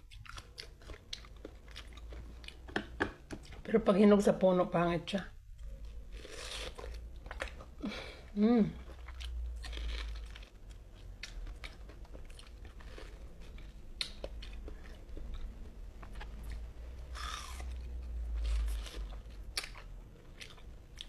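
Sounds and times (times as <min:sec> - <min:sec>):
person chewing mango: 0:00.0 - 0:03.7, 0:05.5 - 0:21.0.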